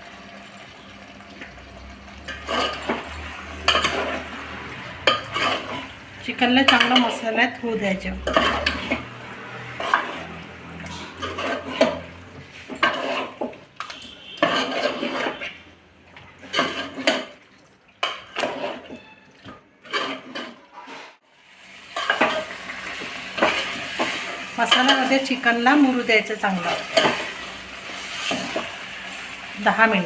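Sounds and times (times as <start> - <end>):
spoon scraping cooking pan: 2.1 - 15.8, 16.4 - 17.4, 18.0 - 21.2, 21.8 - 30.0.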